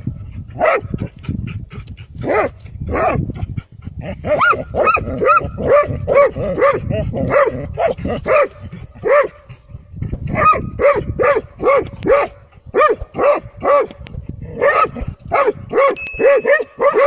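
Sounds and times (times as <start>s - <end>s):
dogs barking: 0.5s - 1.2s, 2.2s - 3.3s, 4.0s - 17.0s.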